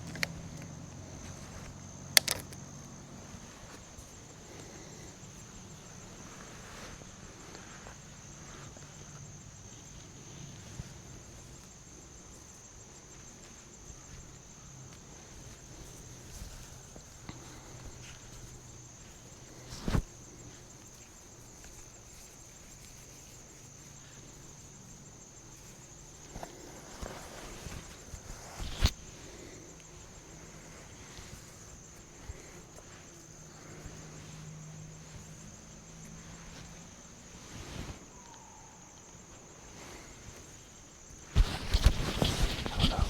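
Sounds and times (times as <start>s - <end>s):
faint rustling: 0.0s - 43.0s
high insect chorus: 0.0s - 43.0s.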